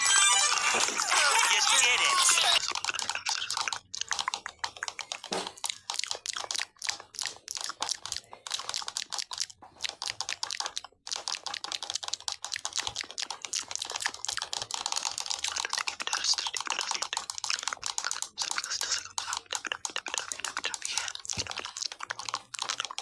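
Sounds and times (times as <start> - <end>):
rapid clicking and crackling: 0.0 - 23.0.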